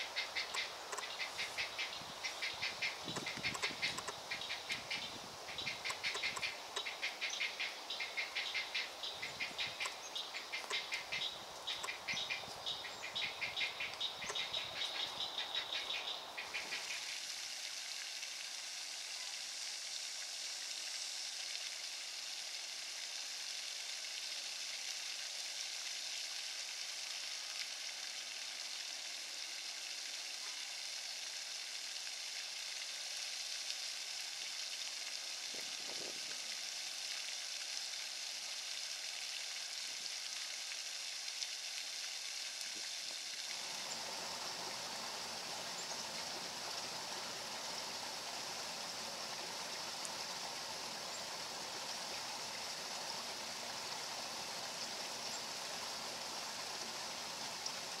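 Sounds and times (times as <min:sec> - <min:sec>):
high-pitched outdoor hiss: 0:00.0 - 0:58.0.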